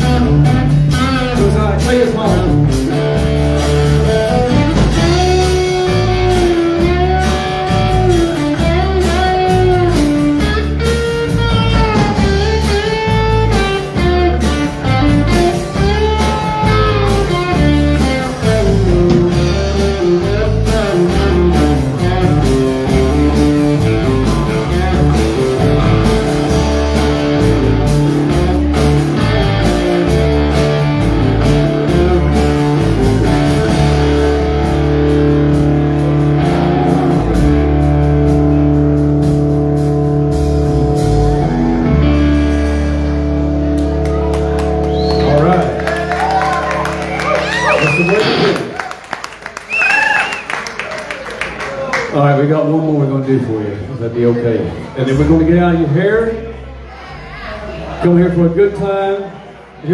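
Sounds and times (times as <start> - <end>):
bass guitar pulse: 0.0 - 48.7
electric guitar lead: 0.0 - 50.6.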